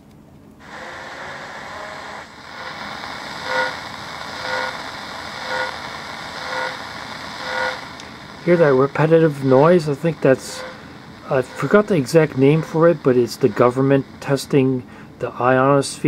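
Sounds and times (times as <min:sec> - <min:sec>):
repetitive radar pulse: 0:00.6 - 0:14.7
radio static: 0:00.6 - 0:15.7.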